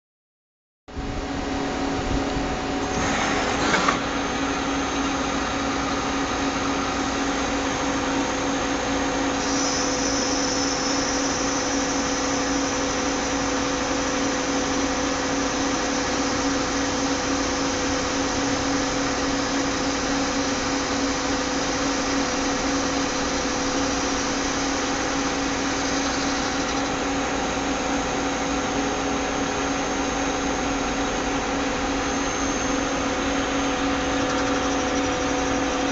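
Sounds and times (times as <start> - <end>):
high whine: 0.9 - 35.9
machine humming: 1.0 - 35.9.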